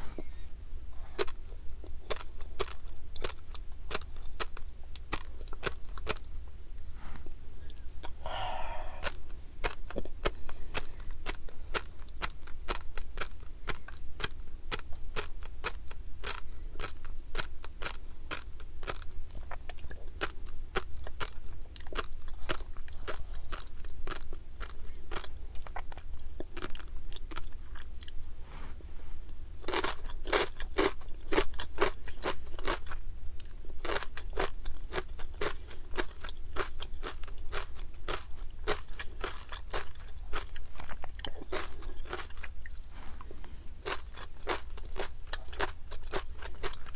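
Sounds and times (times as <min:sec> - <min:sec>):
close chewing with crisp pops: 0:00.0 - 0:46.9.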